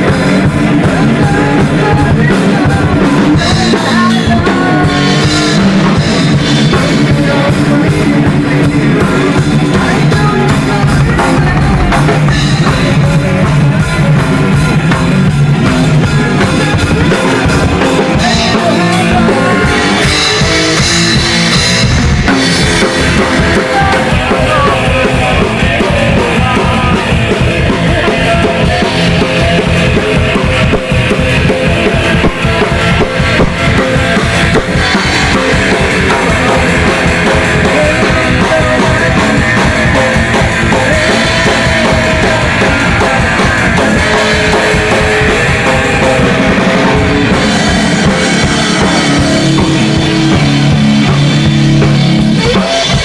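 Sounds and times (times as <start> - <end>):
heavy metal band playing: 0.0 - 53.0.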